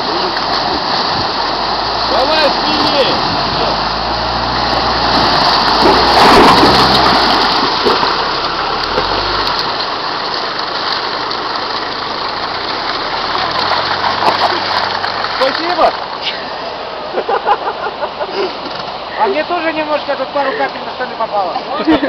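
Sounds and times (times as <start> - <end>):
river rushing: 0.0 - 22.0
water splashing: 0.0 - 22.0.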